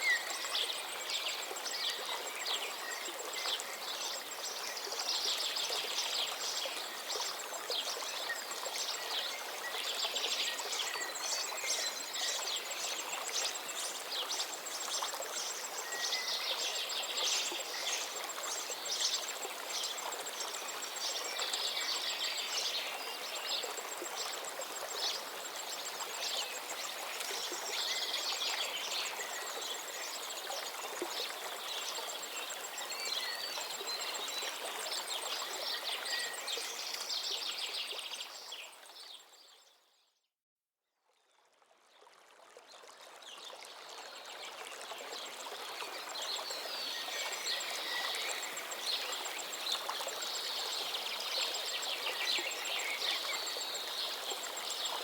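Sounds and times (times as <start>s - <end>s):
stream of water running: 0.0s - 39.7s, 41.2s - 55.0s.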